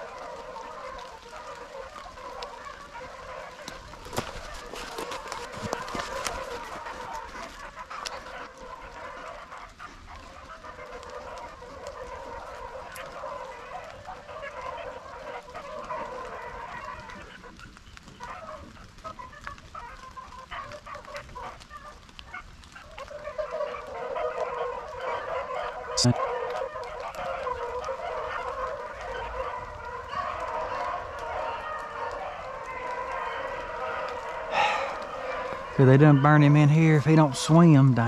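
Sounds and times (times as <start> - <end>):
dogs baying: 0.0 - 38.0.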